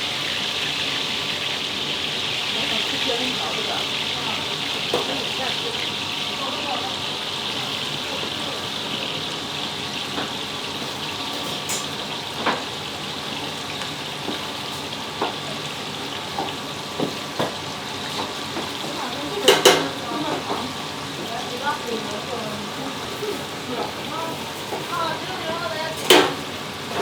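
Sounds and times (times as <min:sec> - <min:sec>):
patties sizzling in oil: 0:00.0 - 0:27.0.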